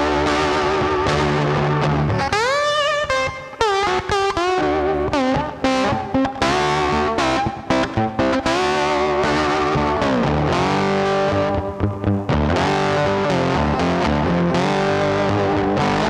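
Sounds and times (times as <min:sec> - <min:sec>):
bass: 0:00.0 - 0:16.0
distorted electric guitar: 0:00.0 - 0:16.0.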